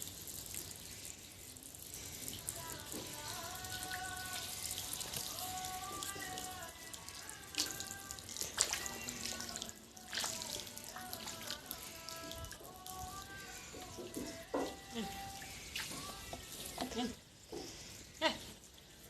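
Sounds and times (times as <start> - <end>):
water splashing and pouring: 0.0 - 17.2.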